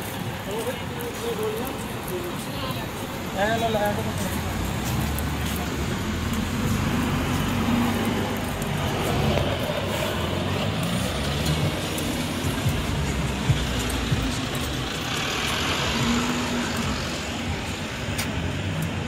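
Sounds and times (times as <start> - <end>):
general street noise: 0.0 - 19.0
passing vehicle engines rumbling: 0.0 - 19.0.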